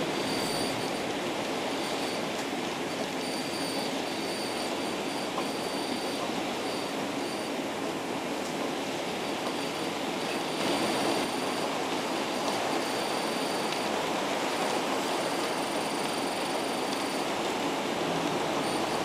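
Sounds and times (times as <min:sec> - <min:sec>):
faint high whine: 0:00.0 - 0:19.0
heavy rain on bus roof: 0:00.0 - 0:19.0.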